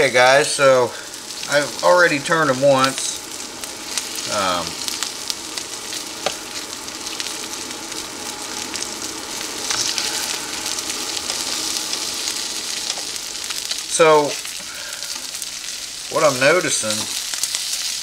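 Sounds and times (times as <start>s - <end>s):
bacon sizzling on a griddle: 0.0s - 18.0s
griddle humming: 0.0s - 18.0s.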